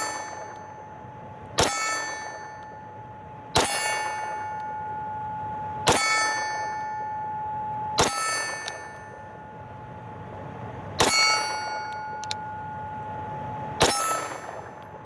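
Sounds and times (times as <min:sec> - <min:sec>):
steel target ringing: 0:00.0 - 0:09.9, 0:11.0 - 0:15.0.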